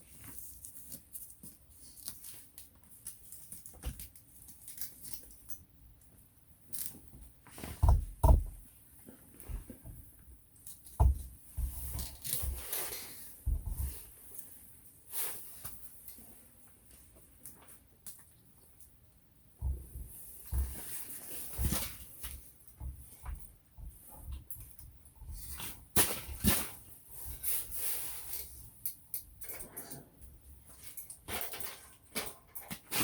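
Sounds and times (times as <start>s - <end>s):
handling knocks and rustling: 0.0s - 33.0s.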